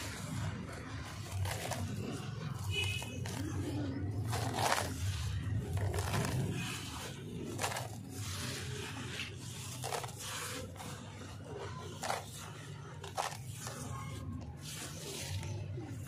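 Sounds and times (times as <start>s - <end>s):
wet grit crumbled by hand: 0.0s - 16.0s.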